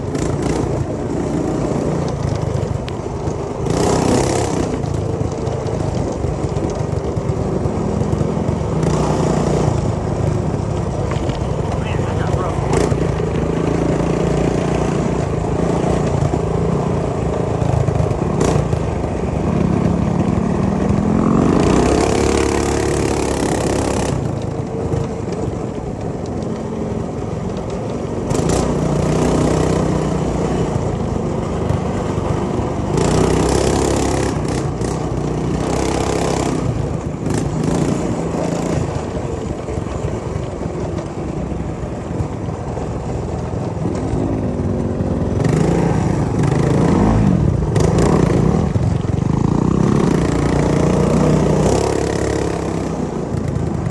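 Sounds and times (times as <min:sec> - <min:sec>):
minibike engine revving: 0:00.0 - 0:53.9.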